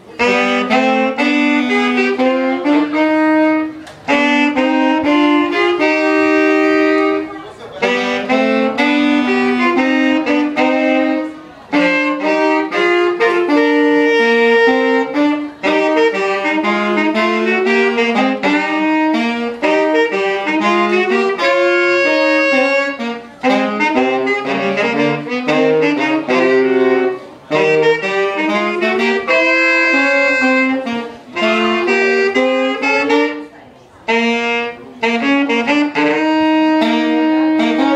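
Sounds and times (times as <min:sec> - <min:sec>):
saxophone duet playing jazz: 0:00.0 - 0:37.9.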